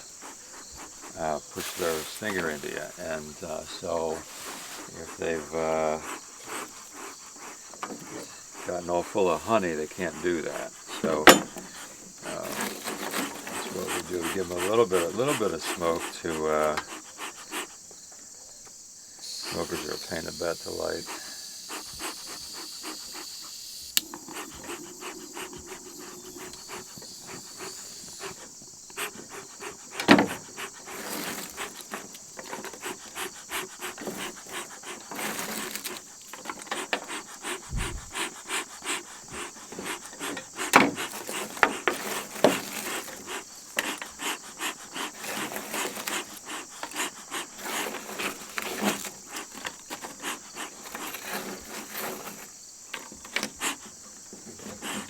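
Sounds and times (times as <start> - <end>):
bellows puffing: 0.0 - 55.0
crickets chirping: 0.0 - 55.0.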